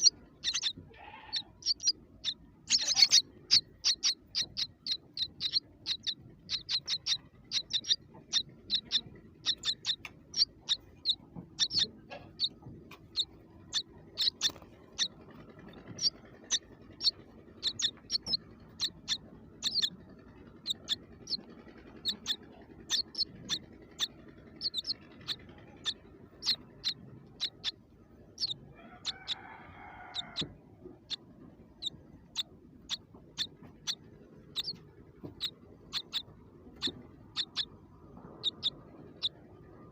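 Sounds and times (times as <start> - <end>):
small bird chirping: 0.0 - 31.2, 31.8 - 39.9.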